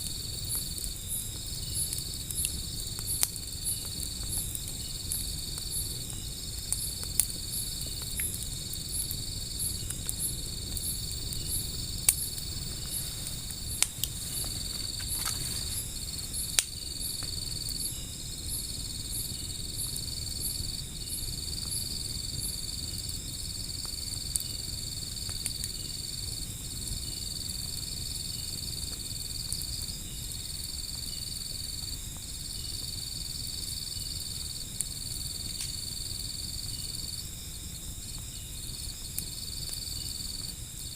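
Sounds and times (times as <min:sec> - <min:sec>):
crickets trilling: 0:00.0 - 0:40.9
wood fire crackling: 0:00.0 - 0:40.9.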